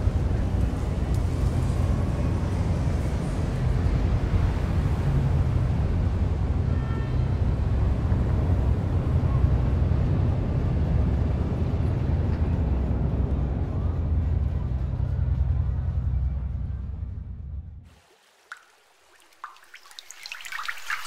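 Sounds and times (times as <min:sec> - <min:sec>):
city traffic rumble: 0:00.0 - 0:17.9.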